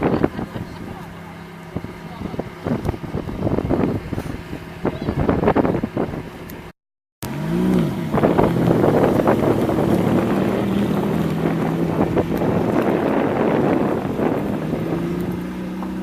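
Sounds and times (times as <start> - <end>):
wind noise on microphone: 0.0 - 1.0, 1.7 - 6.7, 7.4 - 16.0
car engine revving and running: 0.0 - 16.0.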